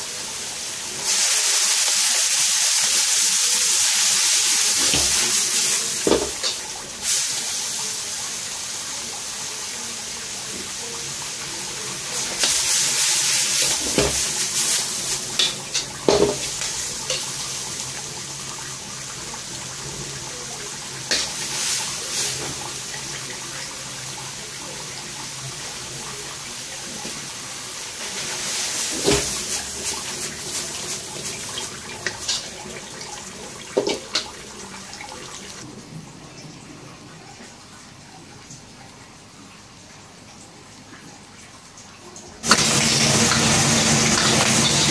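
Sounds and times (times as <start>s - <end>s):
food sizzling in a wok: 0.0s - 35.6s, 42.4s - 44.9s.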